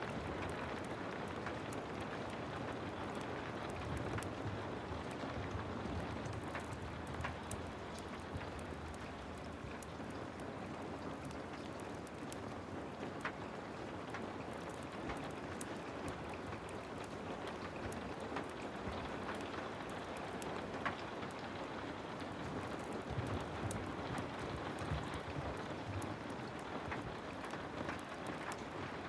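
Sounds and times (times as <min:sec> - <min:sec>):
heavy rain falling: 0:00.0 - 0:29.0
sharp ticks and crackles: 0:00.0 - 0:29.0.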